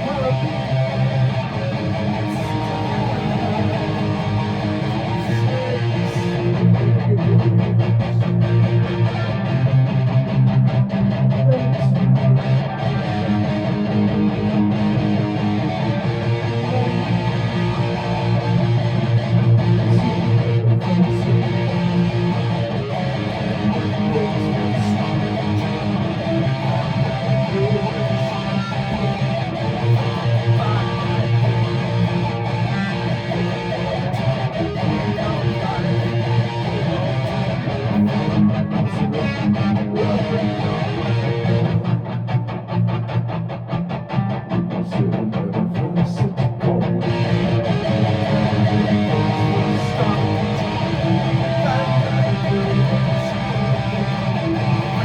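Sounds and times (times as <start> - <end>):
guitar strumming chords: 0.0 - 55.0.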